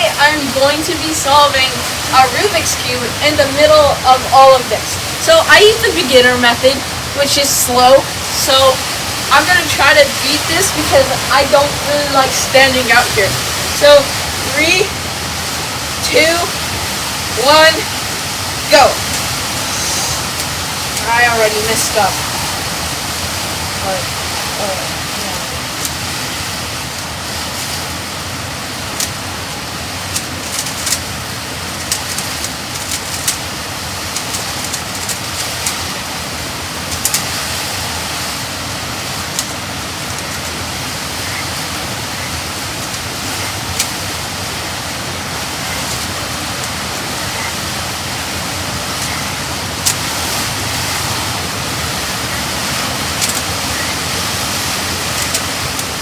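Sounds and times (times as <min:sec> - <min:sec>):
rain: 0:00.0 - 0:56.0
wind buffeting microphone: 0:00.0 - 0:56.0.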